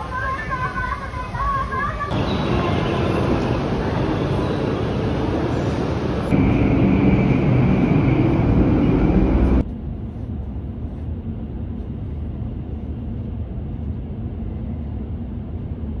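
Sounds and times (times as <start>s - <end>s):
low train rumble in cabin: 0.0s - 16.0s
train rushing with high whine: 0.0s - 16.0s.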